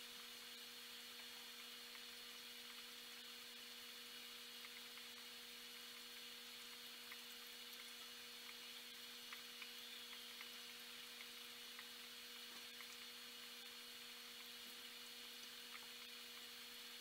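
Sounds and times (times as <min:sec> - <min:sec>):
aquarium equipment humming: 0:00.0 - 0:17.0
soft ticks of bubbling water: 0:00.0 - 0:17.0.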